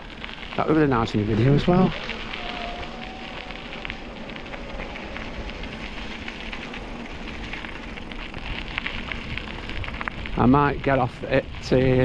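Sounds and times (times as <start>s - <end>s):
bicycle tyres rolling on gravel: 0.0s - 12.0s.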